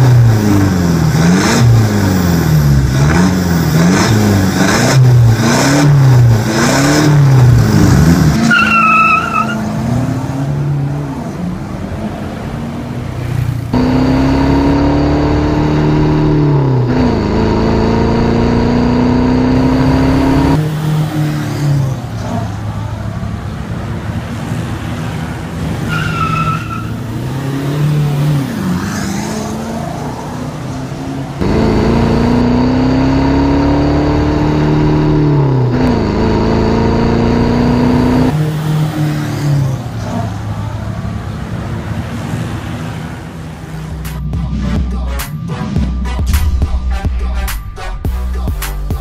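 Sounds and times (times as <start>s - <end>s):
car engine accelerating: 0.0s - 23.4s, 25.9s - 45.1s.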